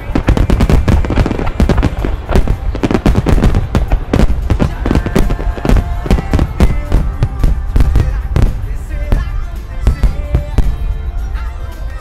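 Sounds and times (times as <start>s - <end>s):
fireworks bursting with crackling: 0.0s - 12.0s.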